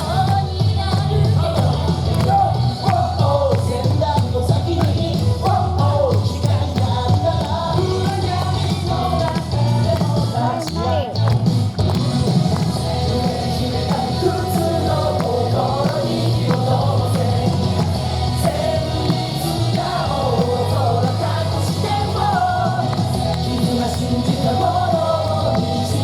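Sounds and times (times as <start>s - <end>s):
rock song with singing: 0.0s - 26.0s
steady bass beat: 0.0s - 26.0s.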